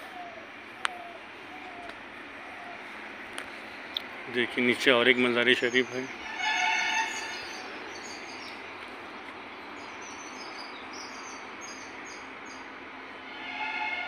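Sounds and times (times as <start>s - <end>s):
birds chirping: 0.0s - 12.9s
outdoor background noise: 0.0s - 14.0s.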